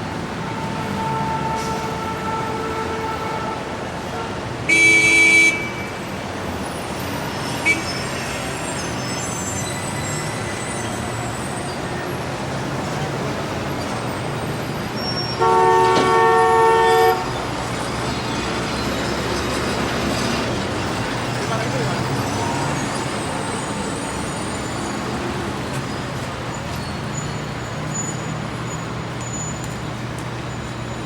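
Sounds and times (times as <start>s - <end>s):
city street traffic: 0.0s - 31.0s.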